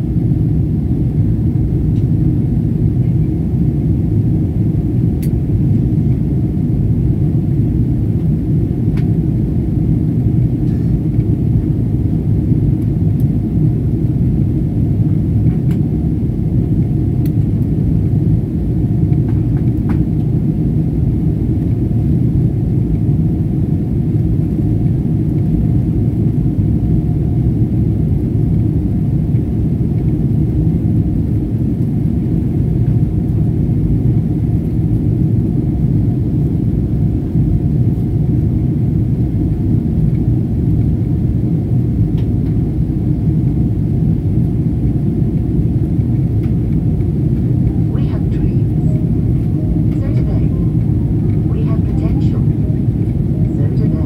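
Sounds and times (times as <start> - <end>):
faint steady hum: 0.0 - 54.0
jet cabin engine rumble: 0.0 - 54.0.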